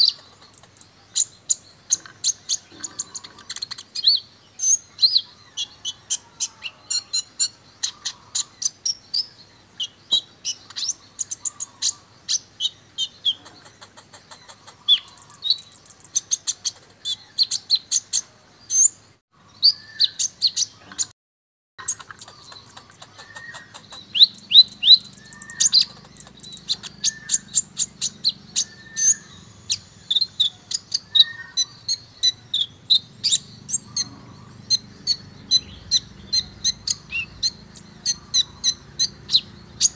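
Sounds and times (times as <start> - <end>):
sunbird twittering and trilling: 0.0 - 21.1, 21.8 - 39.9.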